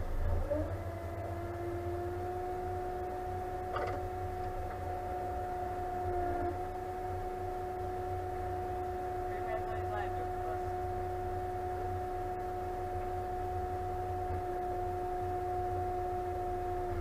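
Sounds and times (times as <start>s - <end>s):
tractor engine rumble with whine: 0.0s - 17.0s.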